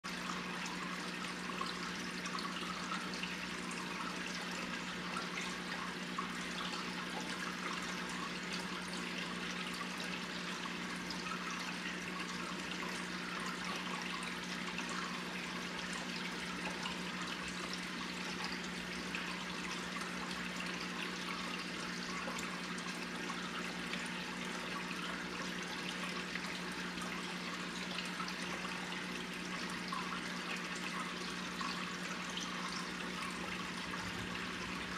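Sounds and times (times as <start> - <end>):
water trickling and bubbling: 0.0 - 34.9.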